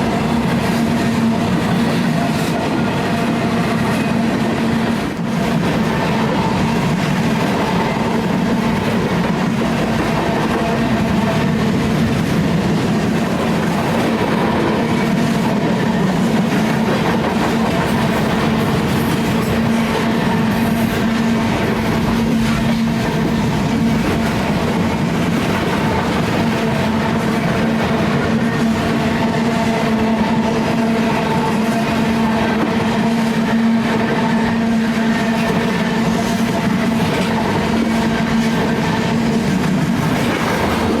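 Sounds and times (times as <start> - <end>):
freight train rumble: 0.0 - 41.0
train wheels clattering on rails: 0.0 - 41.0.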